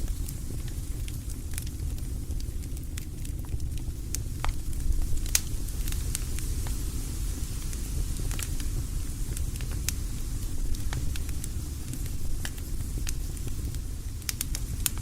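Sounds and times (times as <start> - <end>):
campfire crackling: 0.0 - 15.0
sharp pops of fire: 0.1 - 15.0.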